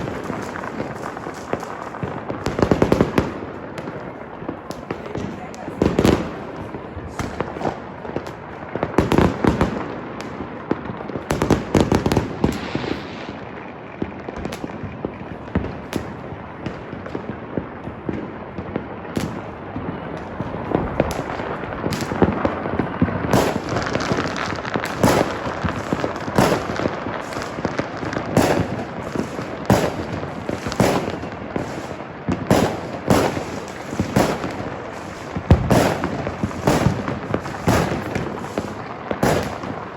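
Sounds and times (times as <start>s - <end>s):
firecrackers crackling: 0.0s - 39.9s
firework bangs: 0.0s - 39.9s.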